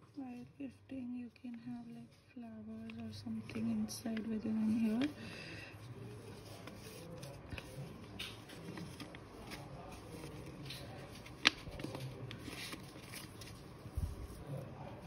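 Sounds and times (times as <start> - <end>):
paper rustling and crinkling: 1.5 - 15.0.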